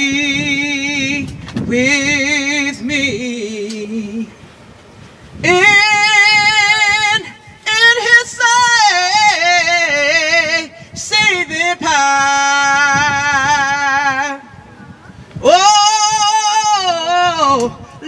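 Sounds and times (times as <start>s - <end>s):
woman singing a hymn unaccompanied: 0.0s - 4.5s, 5.3s - 14.6s, 15.3s - 18.0s.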